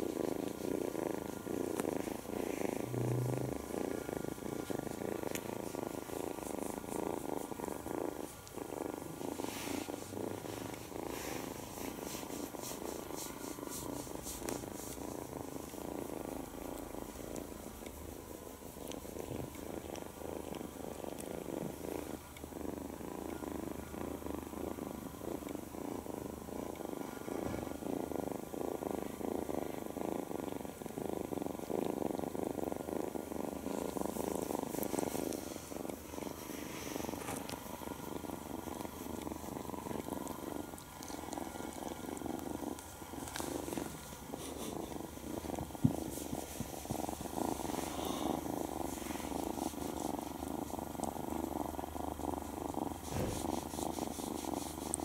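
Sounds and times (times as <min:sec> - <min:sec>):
kitten purring: 0:00.0 - 0:55.0.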